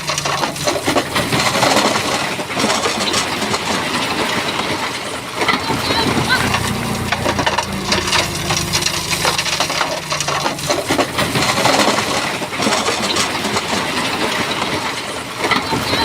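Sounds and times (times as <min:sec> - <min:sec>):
bulldozer diesel engine: 0:00.6 - 0:14.0.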